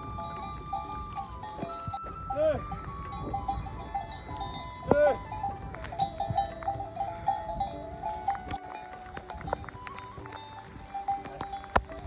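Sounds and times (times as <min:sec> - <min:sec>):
melody of held notes: 0:00.0 - 0:12.0.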